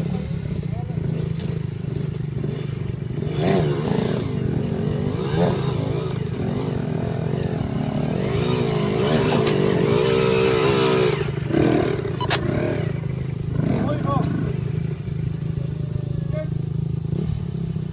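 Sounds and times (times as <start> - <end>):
dirt bike engines idling: 0.0 - 17.9
engine revving: 0.0 - 17.9.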